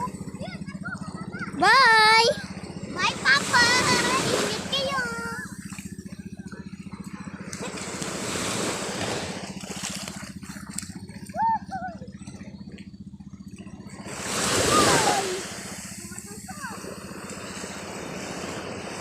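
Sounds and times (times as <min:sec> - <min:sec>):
waves washing: 0:00.0 - 0:12.8, 0:13.4 - 0:19.0
boat engine running: 0:00.0 - 0:19.0.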